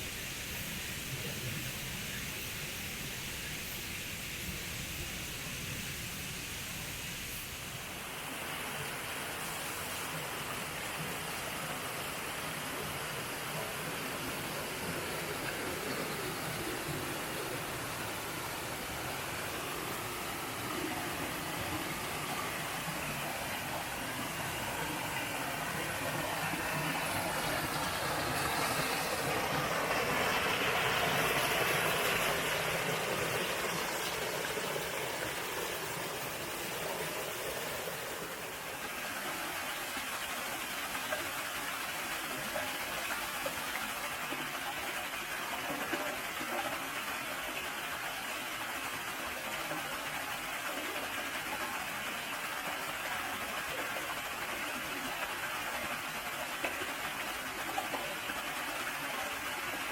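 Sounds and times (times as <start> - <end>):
stream rushing over rocks: 6.8 - 59.9.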